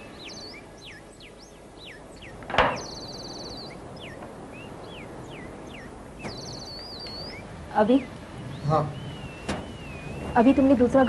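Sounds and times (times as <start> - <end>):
birds chirping: 0.0 - 11.0
buzzy bird trills: 0.0 - 11.0.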